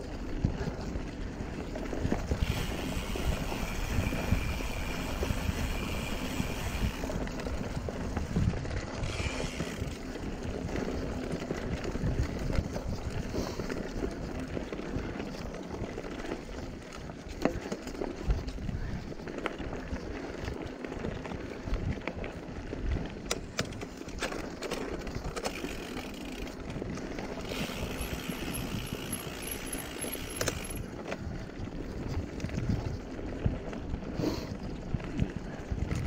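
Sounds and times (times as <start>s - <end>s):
bike rattling and knocking: 0.0s - 36.0s
bike tyres on rough dirt: 0.0s - 36.0s.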